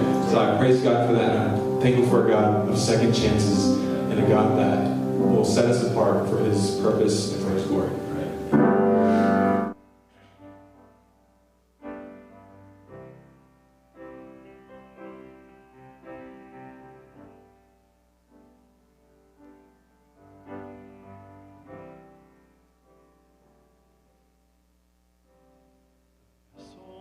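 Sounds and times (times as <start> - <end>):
soft piano chords: 0.0 - 27.0.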